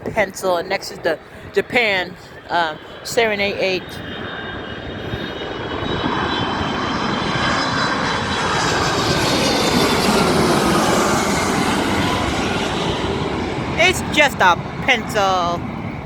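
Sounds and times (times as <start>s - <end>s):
jet engines roaring past: 0.0s - 16.0s
turbine whine falling in pitch: 1.8s - 16.0s.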